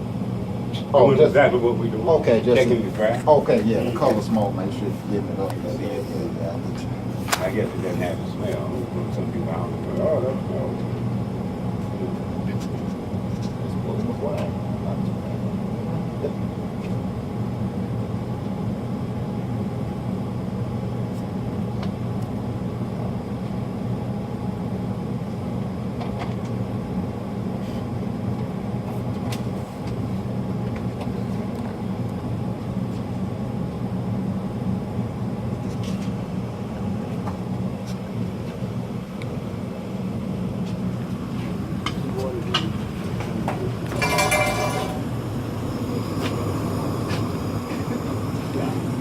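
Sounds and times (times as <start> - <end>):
gas burners rumbling: 0.0 - 49.0.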